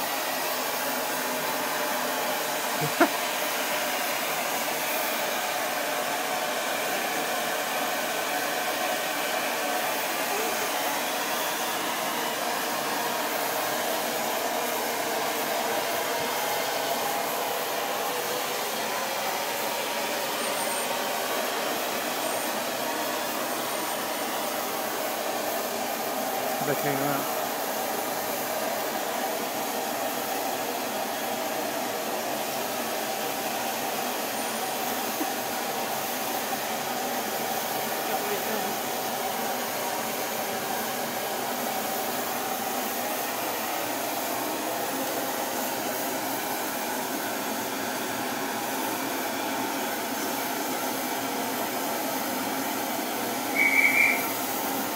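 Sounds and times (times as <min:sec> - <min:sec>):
steam hissing: 0:00.0 - 0:54.9.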